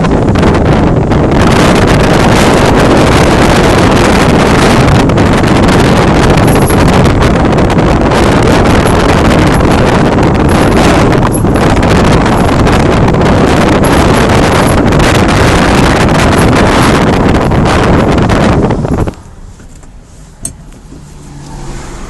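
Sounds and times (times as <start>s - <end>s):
loud road noise: 0.0s - 22.0s
wind buffeting microphone: 0.0s - 22.0s.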